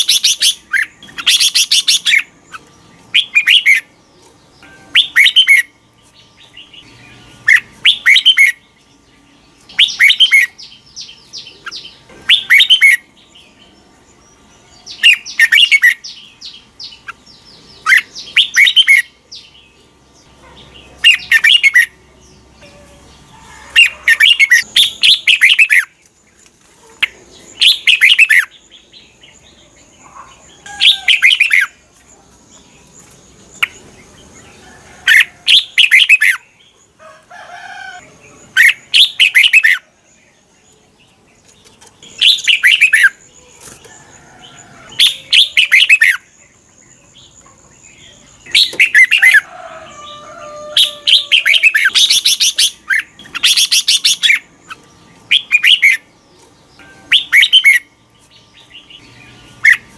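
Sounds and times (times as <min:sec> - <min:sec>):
bird singing warbled phrases: 0:00.0 - 0:37.0, 0:38.0 - 0:43.9, 0:44.8 - 0:59.9.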